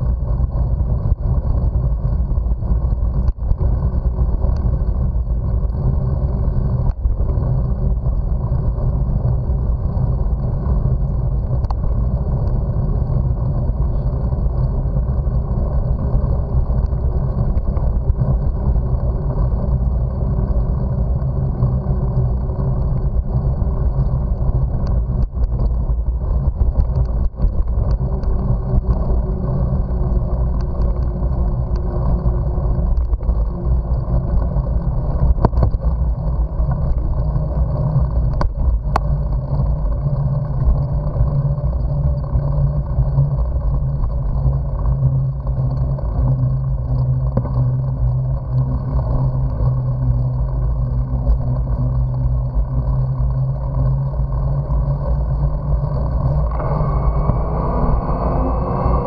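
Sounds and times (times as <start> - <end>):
bicycle tyres rolling on asphalt: 0.0 - 59.0
wind on microphone: 0.0 - 59.0.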